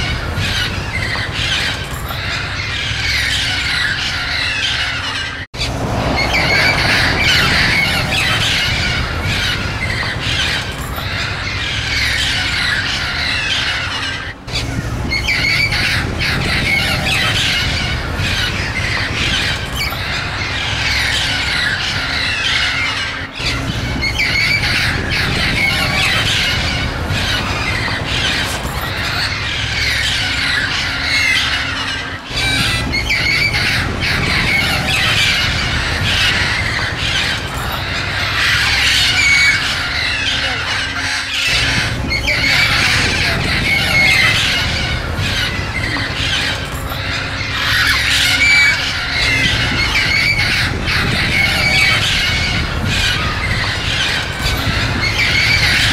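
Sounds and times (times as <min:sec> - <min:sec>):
parrots squawking and screeching: 0:00.0 - 0:55.9.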